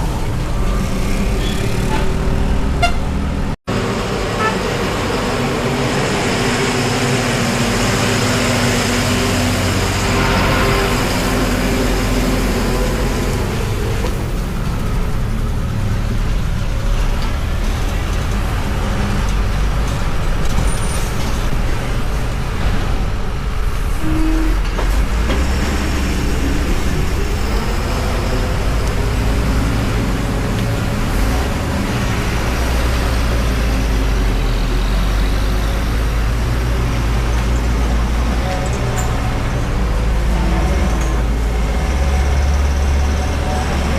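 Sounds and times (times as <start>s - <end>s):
heavy vehicle engine rumbling: 0.0s - 43.9s.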